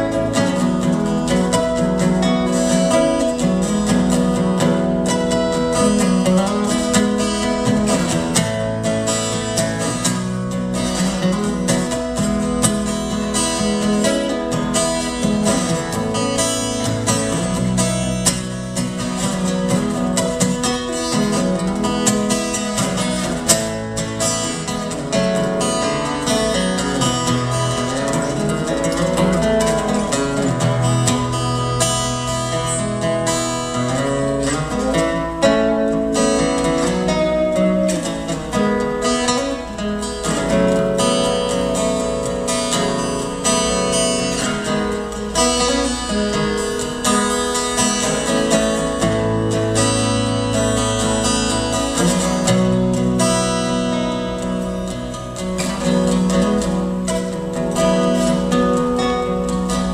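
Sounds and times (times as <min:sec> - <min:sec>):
fingerstyle acoustic guitar: 0:00.0 - 0:59.9.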